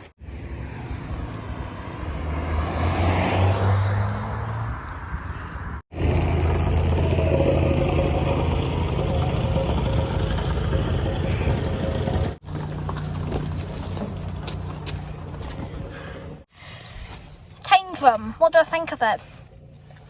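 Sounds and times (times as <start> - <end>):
car engine hum: 0.0 - 16.5.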